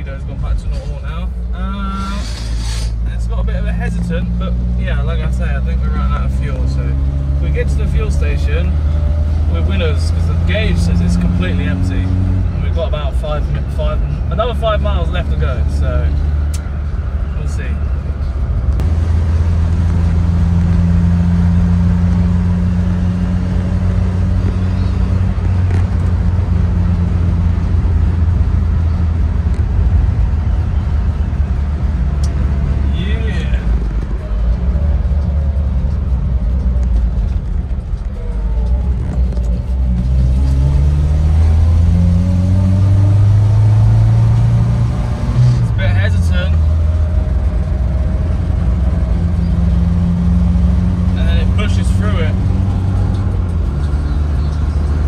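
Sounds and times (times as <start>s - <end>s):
car engine running: 0.0s - 55.0s
road noise inside car: 0.0s - 55.0s.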